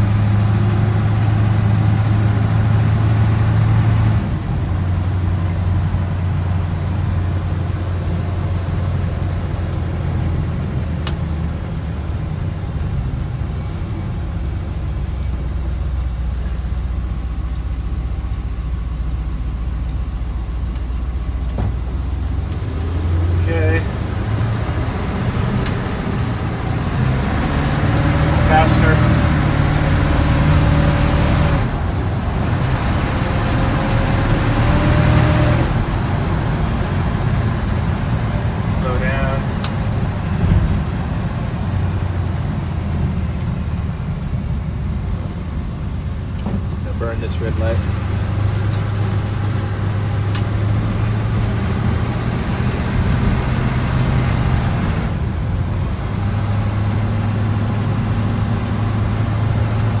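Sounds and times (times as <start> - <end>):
road noise: 0.0 - 60.0
truck engine running: 0.0 - 60.0.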